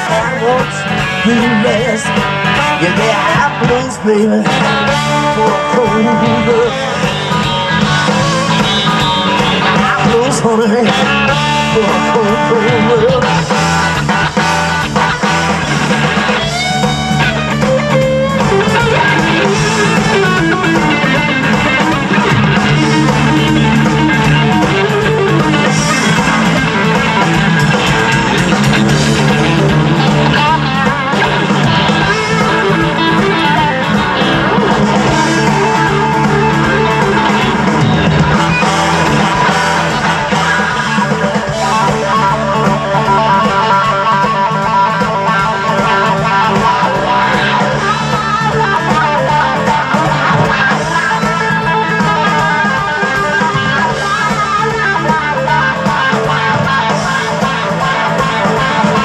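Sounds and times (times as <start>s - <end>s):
blues-rock band playing: 0.0s - 59.0s
electric guitar: 0.0s - 59.0s.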